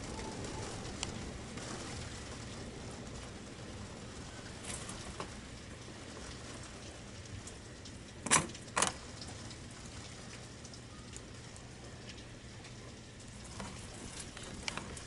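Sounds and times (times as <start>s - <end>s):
pouring rain: 0.0s - 15.0s.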